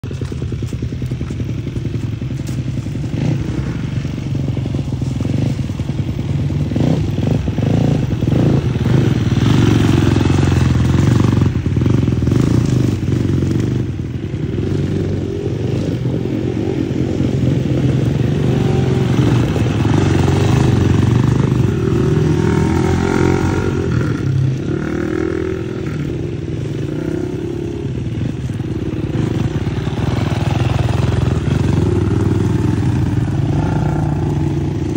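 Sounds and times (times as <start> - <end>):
dirt bike engines: 0.0 - 34.9.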